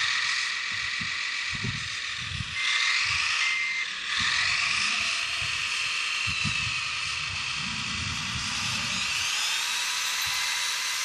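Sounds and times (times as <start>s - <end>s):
model loader motors whining: 0.0s - 11.0s.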